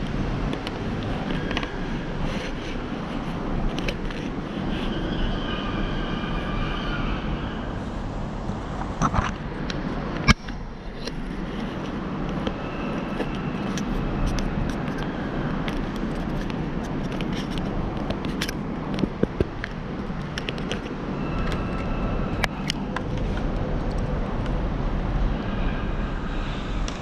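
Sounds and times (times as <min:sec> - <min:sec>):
bike rattles and ticks: 0:00.0 - 0:05.2, 0:08.6 - 0:25.3
road and wind rumble: 0:00.0 - 0:27.0.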